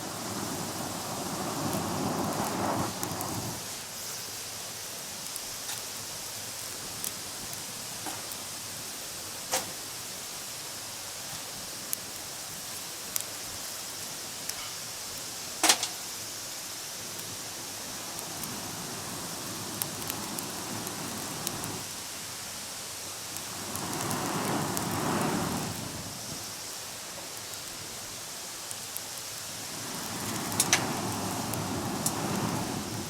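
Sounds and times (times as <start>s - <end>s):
loud snap of fire: 0.0s - 4.5s, 5.1s - 8.8s, 9.4s - 10.2s, 10.9s - 16.3s, 17.0s - 33.0s
campfire crackling: 0.0s - 33.0s.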